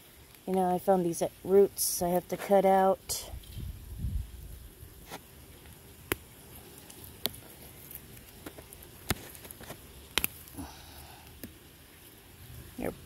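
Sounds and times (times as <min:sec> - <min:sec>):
roots pulled from dry soil: 0:00.0 - 0:13.0.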